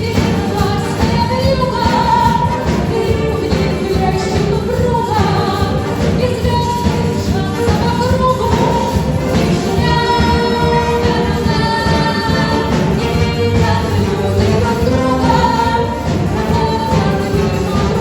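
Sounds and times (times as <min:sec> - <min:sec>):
song with vocals and instruments: 0:00.0 - 0:18.0.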